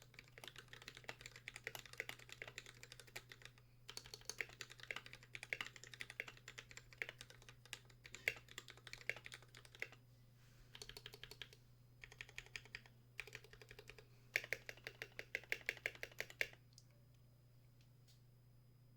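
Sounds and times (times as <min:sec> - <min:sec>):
mechanical keyboard typing: 0:00.0 - 0:10.0, 0:10.7 - 0:16.6.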